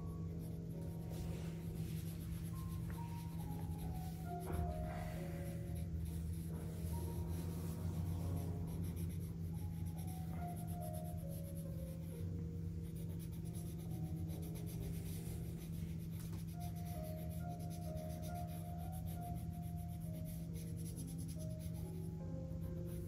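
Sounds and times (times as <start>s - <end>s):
pencil scratching on paper: 0.0s - 12.2s, 12.8s - 23.0s
steady low hum: 0.0s - 23.0s.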